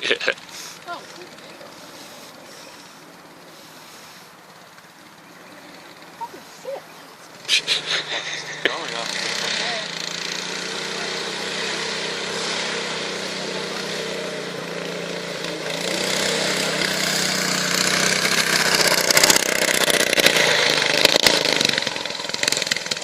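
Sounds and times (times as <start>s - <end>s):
buggy engine under load: 0.0s - 23.0s.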